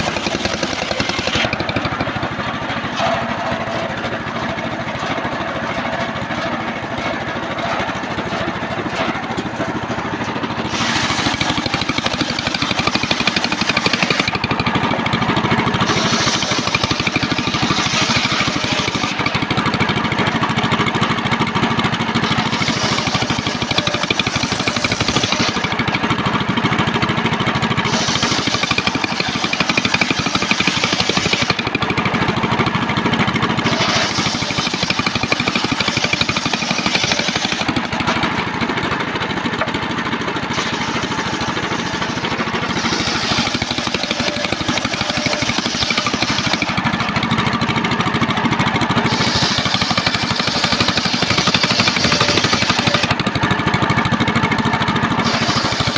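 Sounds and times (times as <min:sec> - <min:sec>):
table saw cutting wood: 0:00.0 - 0:20.0, 0:22.2 - 0:26.2, 0:27.8 - 0:32.8, 0:33.5 - 0:47.7, 0:49.0 - 0:53.4, 0:55.2 - 0:55.9
engine running: 0:00.0 - 0:55.9.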